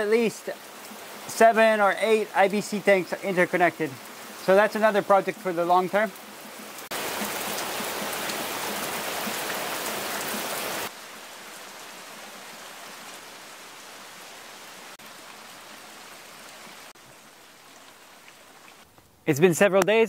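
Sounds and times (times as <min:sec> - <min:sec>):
heavy rain hissing: 0:00.0 - 0:18.8.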